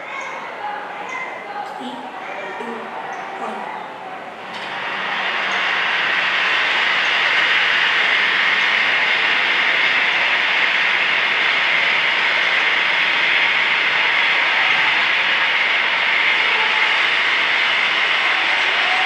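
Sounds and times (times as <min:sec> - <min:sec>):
white noise hiss from loudspeaker: 0:00.0 - 0:19.0.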